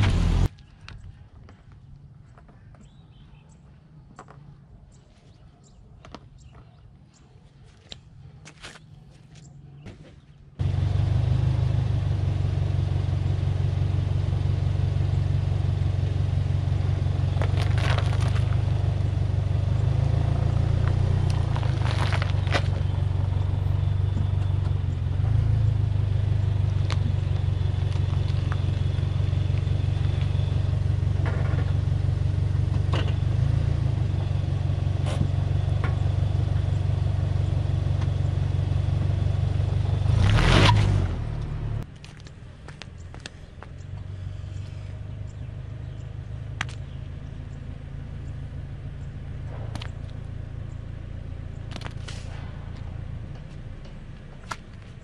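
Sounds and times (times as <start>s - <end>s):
car engine idling: 0.0s - 0.5s, 10.6s - 55.0s.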